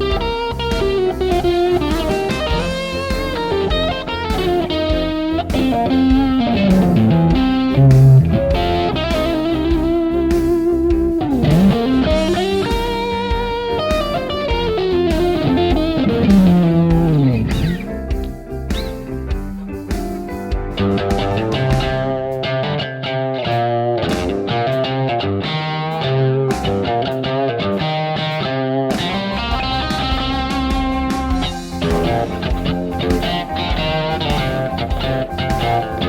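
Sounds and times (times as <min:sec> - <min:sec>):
electric guitar blues lead: 0:00.0 - 0:36.0.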